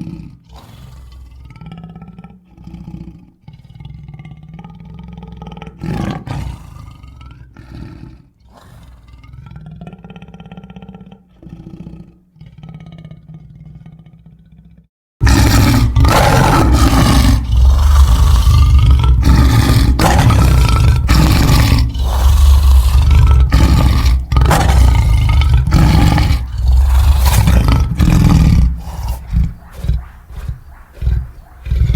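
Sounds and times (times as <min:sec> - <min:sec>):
deep dinosaur roars: 0:00.0 - 0:31.9.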